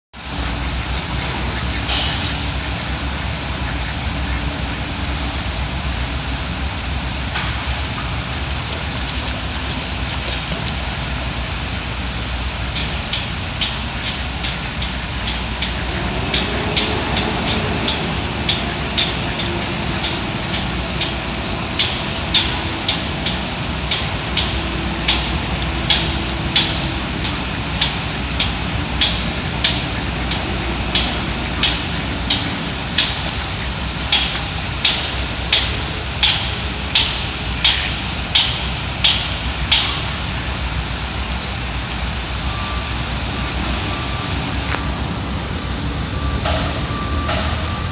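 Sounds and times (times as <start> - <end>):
geese splashing in water: 0.2 - 41.6
water washing: 0.2 - 47.8.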